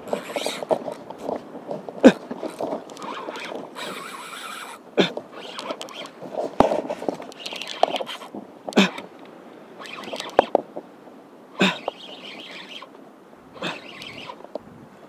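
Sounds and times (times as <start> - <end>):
hissy stretch: 0.0 - 9.1, 9.8 - 10.6, 11.6 - 12.9, 13.6 - 14.5
fishing reel clicking and scraping: 0.0 - 10.7, 11.6 - 13.0, 13.6 - 14.6.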